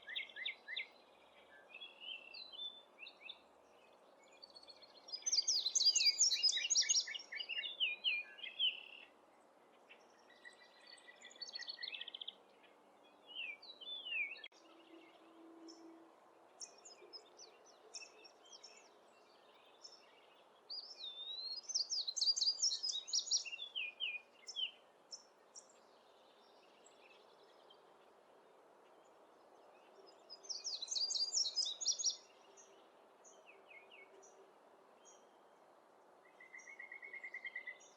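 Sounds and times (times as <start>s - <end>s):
songbird singing: 0.0s - 37.9s.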